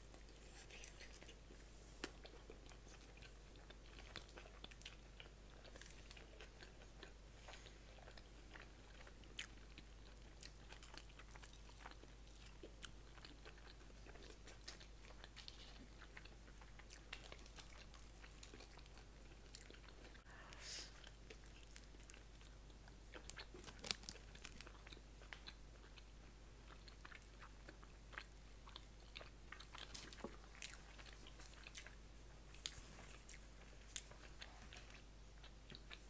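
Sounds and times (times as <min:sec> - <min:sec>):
chewing food: 0:00.0 - 0:36.0.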